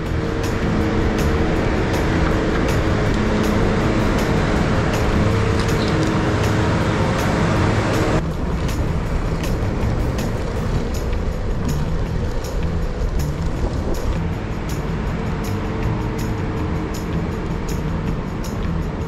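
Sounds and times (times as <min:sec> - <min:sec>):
road and traffic noise: 0:00.0 - 0:19.0
steady hum: 0:00.0 - 0:19.0
wind rushing over microphone: 0:00.0 - 0:19.0.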